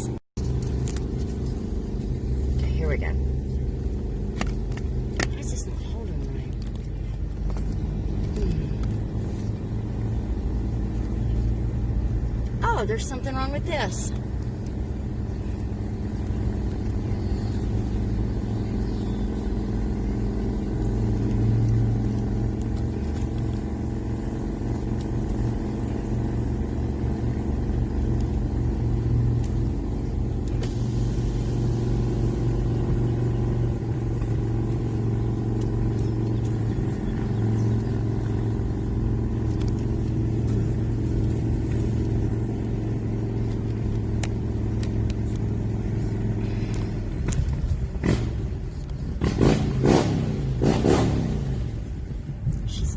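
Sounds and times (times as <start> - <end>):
vehicle engine and road rumble: 0.0 - 52.9.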